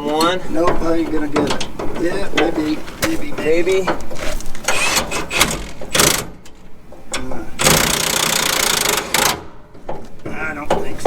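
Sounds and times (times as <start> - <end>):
impact wrench hammering bolts: 0.0 - 11.0.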